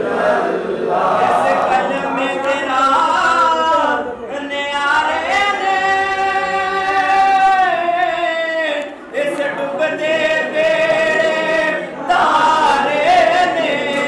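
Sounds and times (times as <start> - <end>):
voices singing a devotional chant: 0.0 - 14.0.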